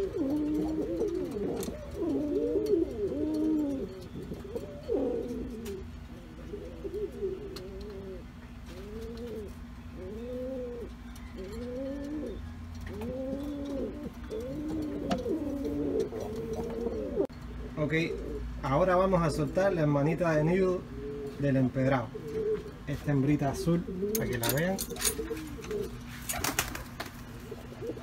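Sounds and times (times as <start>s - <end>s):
faint steady hum: 0.0s - 28.0s
pigeons cooing: 0.0s - 28.0s.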